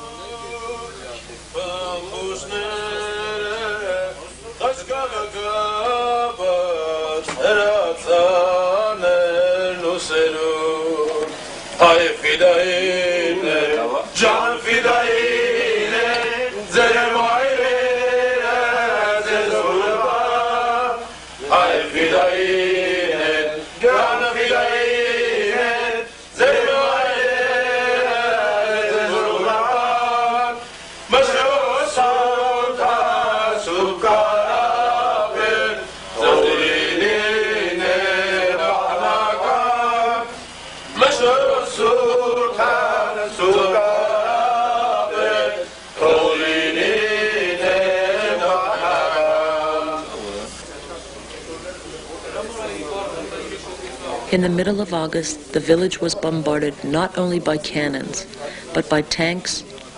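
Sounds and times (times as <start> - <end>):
man singing a slow chant: 0.0 - 50.5.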